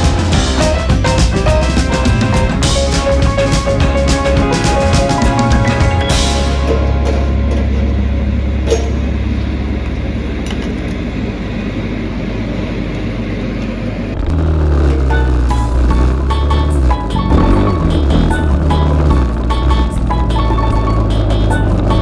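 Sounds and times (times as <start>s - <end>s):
dirt bike engine running: 0.0s - 11.4s, 14.2s - 22.0s.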